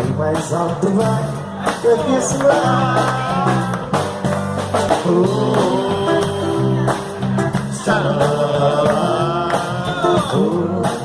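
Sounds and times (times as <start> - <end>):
bass line: 0.0 - 11.0
guitar: 0.0 - 11.0.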